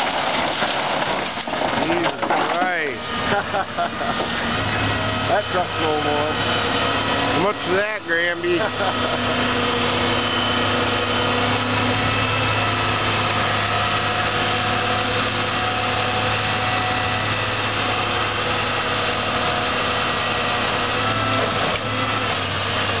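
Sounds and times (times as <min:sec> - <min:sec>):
diesel engine running under load: 0:00.0 - 0:23.0
steady hum: 0:02.1 - 0:21.0.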